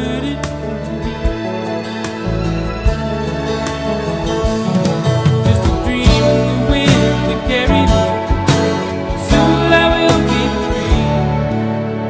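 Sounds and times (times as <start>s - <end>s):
song playing: 0.0s - 12.0s.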